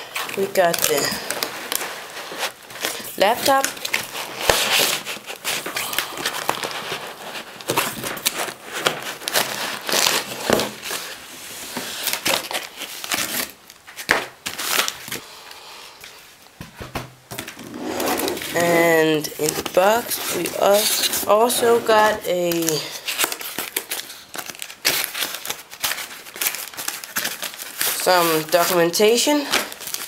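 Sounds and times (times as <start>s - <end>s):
packaging wrap crinkling: 0.0s - 15.2s, 17.3s - 30.0s.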